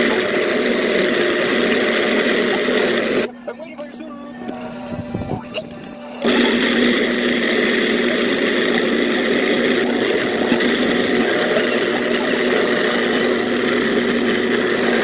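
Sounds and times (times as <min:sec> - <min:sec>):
blender grinding: 0:00.0 - 0:03.3, 0:04.4 - 0:15.0.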